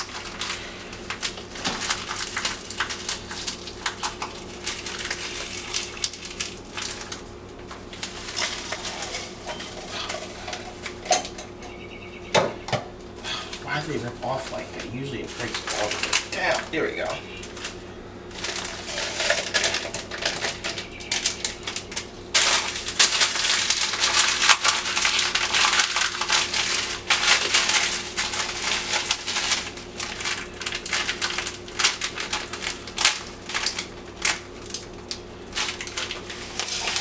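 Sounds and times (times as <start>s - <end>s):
crinkly material crumpling: 0.0s - 11.0s, 13.1s - 37.0s.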